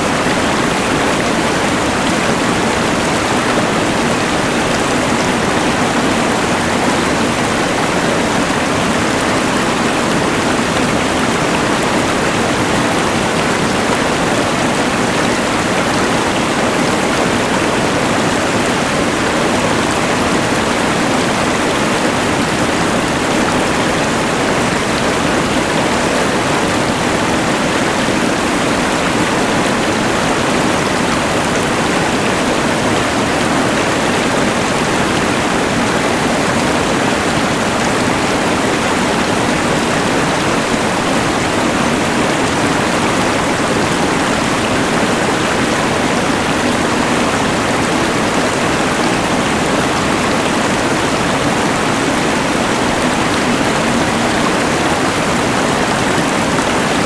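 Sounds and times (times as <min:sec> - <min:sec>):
rushing river: 0:00.0 - 0:57.0.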